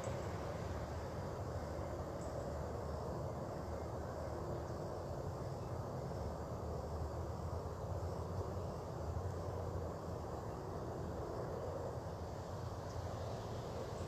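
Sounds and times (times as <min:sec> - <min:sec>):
faint hiss: 0:00.0 - 0:14.0
low outdoor rumble: 0:00.0 - 0:14.0.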